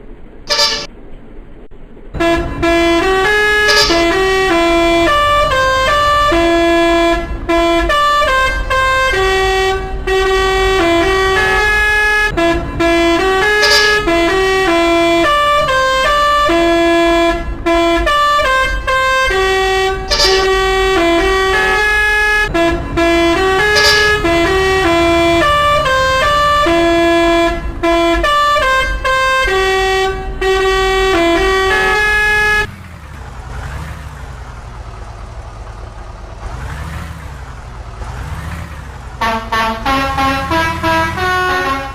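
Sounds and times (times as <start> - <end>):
low engine rumble: 0.0 - 41.9
musical air horn tune: 0.5 - 0.9, 2.2 - 32.7, 39.2 - 41.9.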